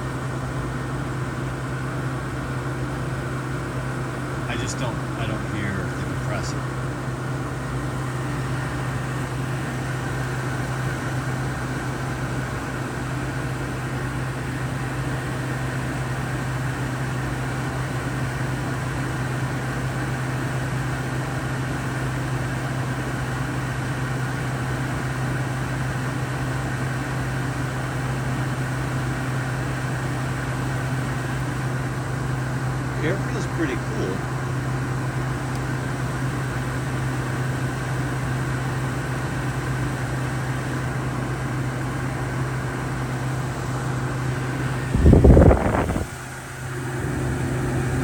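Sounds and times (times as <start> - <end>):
air conditioner fan humming: 0.0 - 48.0.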